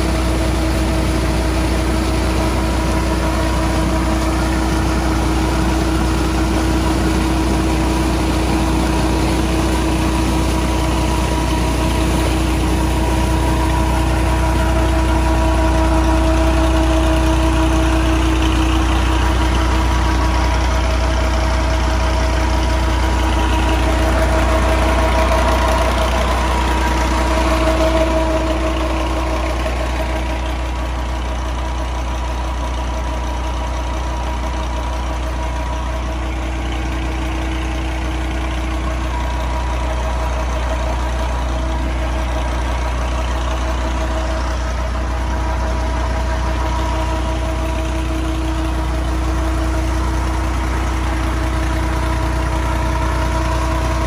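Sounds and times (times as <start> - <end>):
diesel tractor engine running: 0.0 - 54.0
steady whine: 0.0 - 54.0
water gushing from pipe: 0.0 - 54.0.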